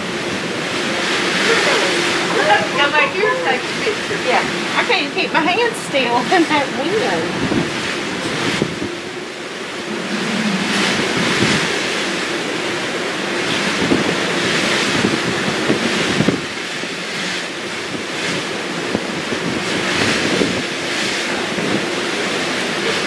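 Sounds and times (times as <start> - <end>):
sea rushing: 0.0 - 23.0
wind on microphone: 0.0 - 23.0.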